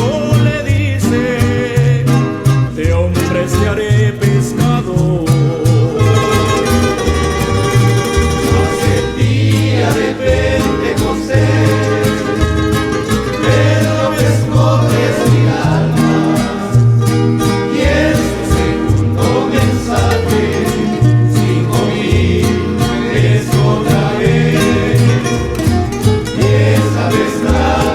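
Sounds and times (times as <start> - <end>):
group of voices singing: 0.0 - 27.9
guitars strummed: 0.0 - 27.9
plucked string melody: 0.0 - 27.9.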